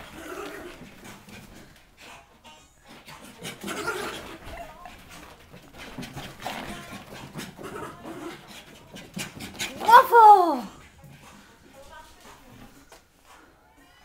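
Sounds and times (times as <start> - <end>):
small dog panting: 0.7 - 9.9, 10.7 - 13.8.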